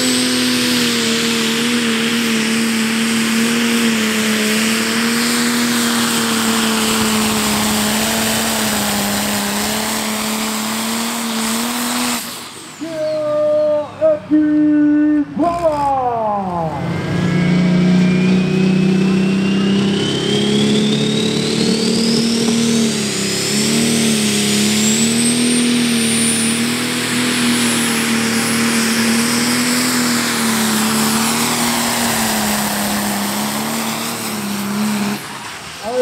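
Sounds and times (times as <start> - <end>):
diesel engine running hard: 0.0 - 36.0.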